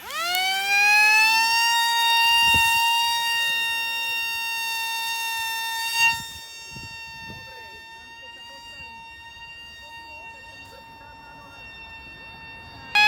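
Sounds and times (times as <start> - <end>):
toy plane motor whine: 0.0 - 13.0.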